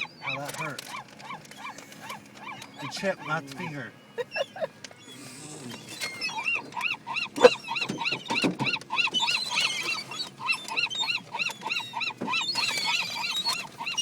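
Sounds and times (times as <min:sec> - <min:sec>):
dog whining: 0:00.0 - 0:03.4, 0:04.1 - 0:14.0.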